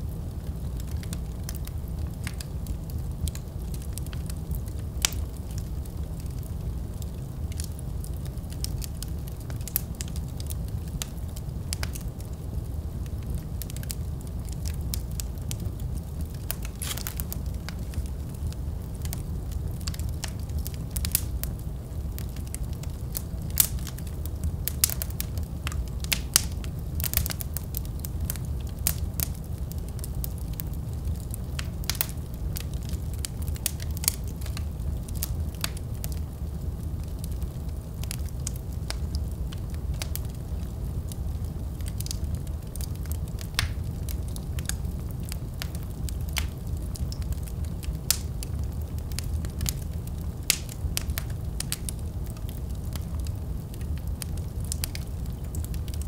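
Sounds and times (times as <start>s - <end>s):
low rumble of flame: 0.0s - 56.0s
wood fire crackling: 0.0s - 56.0s.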